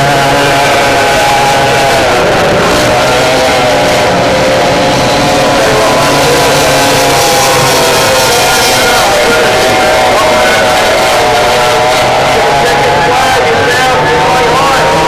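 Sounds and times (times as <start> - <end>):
powerboat engines high-pitched drone: 0.0 - 15.0.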